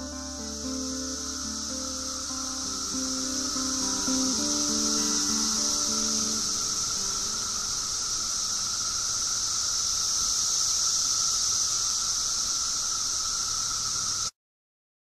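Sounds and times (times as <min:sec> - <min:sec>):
faint constant whine: 0:00.0 - 0:14.3
steady high-pitched hiss: 0:00.0 - 0:14.4.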